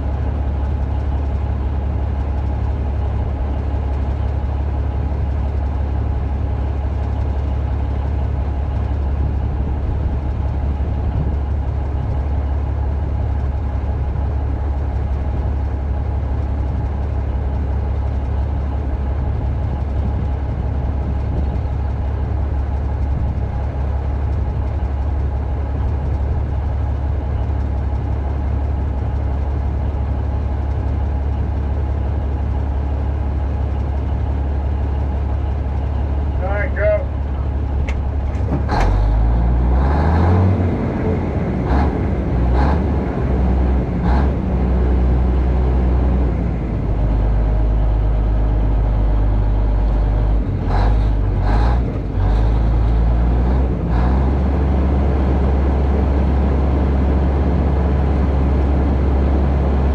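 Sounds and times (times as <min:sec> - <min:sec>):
engine idling with deep hum: 0:00.0 - 0:59.9.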